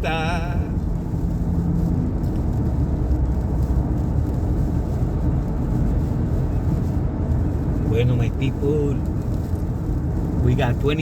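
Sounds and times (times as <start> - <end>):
road and engine noise inside car: 0.0 - 11.0.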